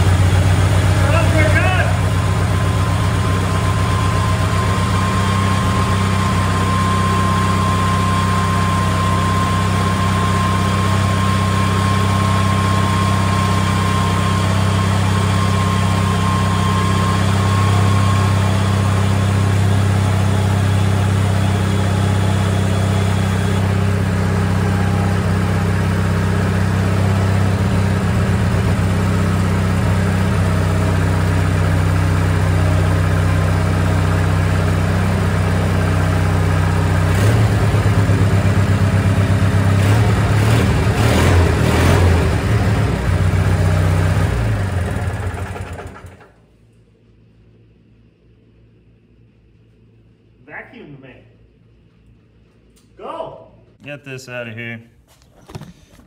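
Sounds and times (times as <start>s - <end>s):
small engine idling: 0.0s - 46.5s.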